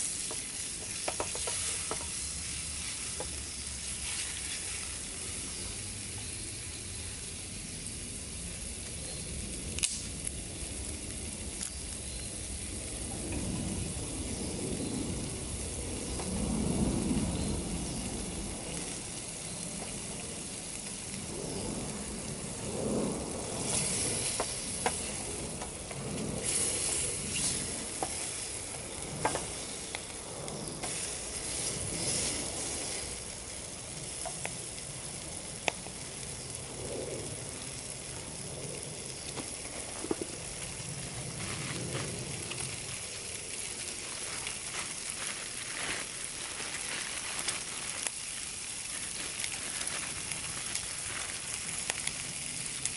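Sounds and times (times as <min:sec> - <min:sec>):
bacon and egg sizzling in a pan: 0:00.0 - 0:52.9.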